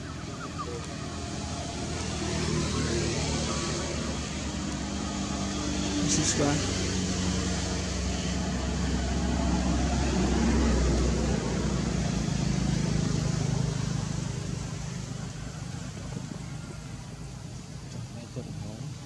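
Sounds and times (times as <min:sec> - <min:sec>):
motor vehicle engine humming: 0:00.0 - 0:19.0.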